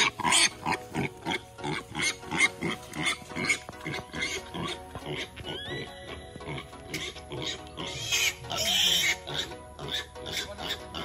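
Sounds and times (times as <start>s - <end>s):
background music: 0.0s - 11.0s
piglet squealing: 0.0s - 11.0s.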